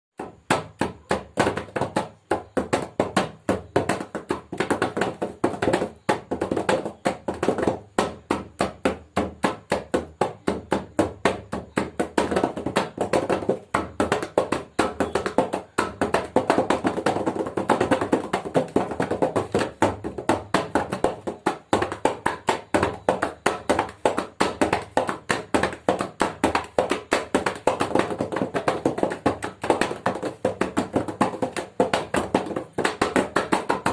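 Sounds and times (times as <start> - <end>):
hands slapping a surface: 0.2 - 33.9.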